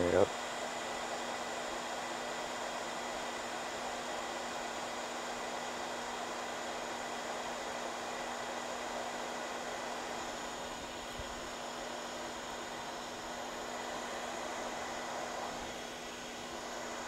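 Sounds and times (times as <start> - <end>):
fan hiss: 0.0 - 17.0.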